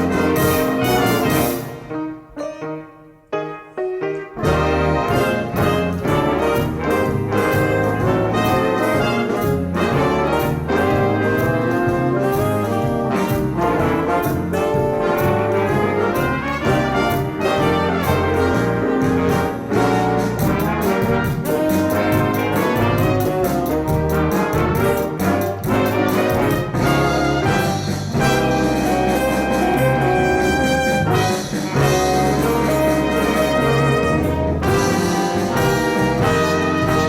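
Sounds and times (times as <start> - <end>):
steady drum beat: 0.0 - 1.8, 4.4 - 37.0
jazz band with brass: 0.0 - 37.0.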